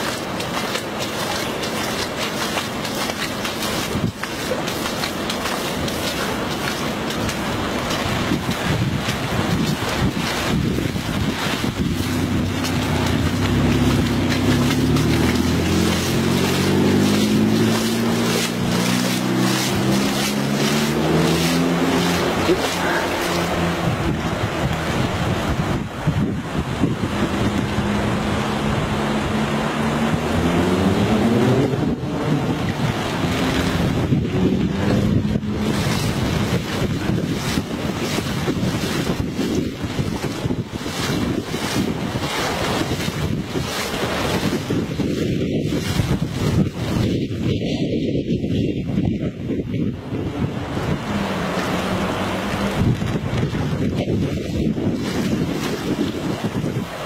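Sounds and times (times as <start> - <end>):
engine hum: 0.0 - 47.4, 49.8 - 57.0
floodwater rushing: 0.0 - 57.0
wind buffeting microphone: 0.0 - 57.0.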